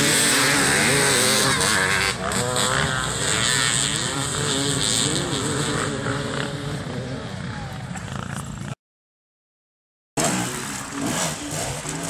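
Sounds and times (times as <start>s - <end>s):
motorcycle engines revving: 0.0s - 8.8s, 10.2s - 12.0s.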